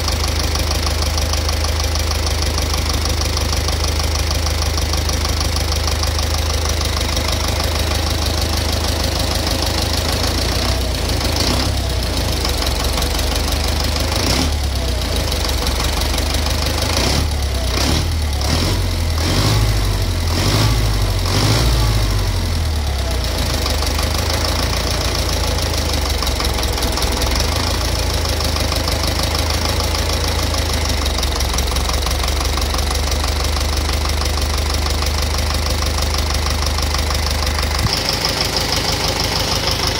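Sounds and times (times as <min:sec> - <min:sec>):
knocking engine idling: 0:00.0 - 0:39.9.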